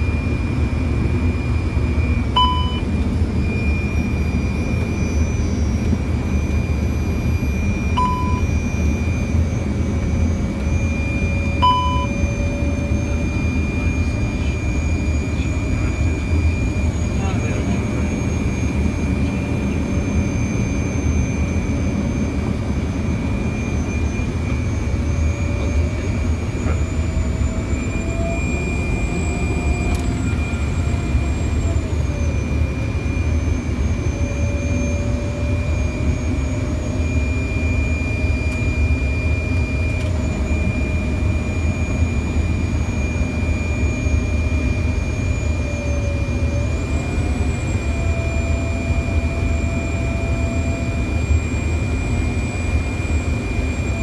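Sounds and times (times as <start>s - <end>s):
airflow and jet engine rumble: 0.0s - 54.0s
high whine: 0.0s - 54.0s.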